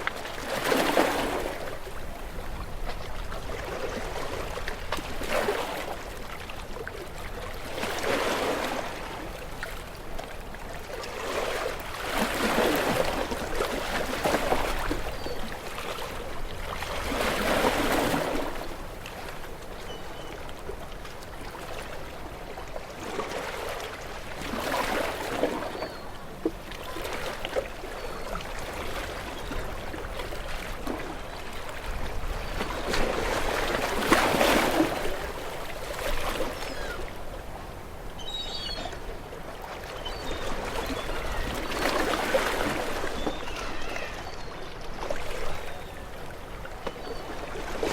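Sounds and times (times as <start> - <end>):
gentle waves washing onto shore: 0.0 - 47.9.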